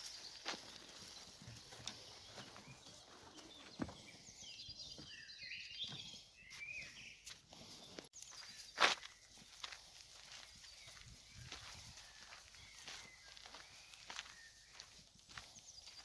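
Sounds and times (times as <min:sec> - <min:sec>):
footsteps on forest floor: 0:00.0 - 0:16.0
small birds chirping: 0:00.0 - 0:16.0.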